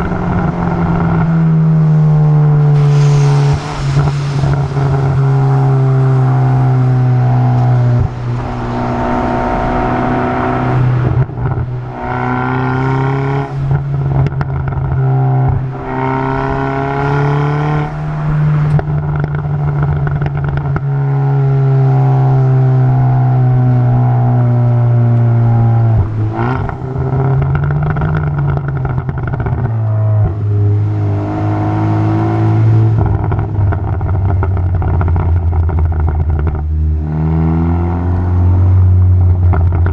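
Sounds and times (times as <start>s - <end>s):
car exhaust idling and revving: 0.0s - 39.9s.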